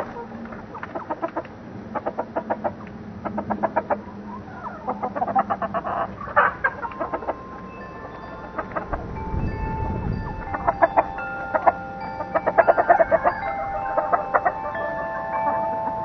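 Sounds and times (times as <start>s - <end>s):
hens clucking: 0.0s - 9.2s, 10.1s - 16.0s.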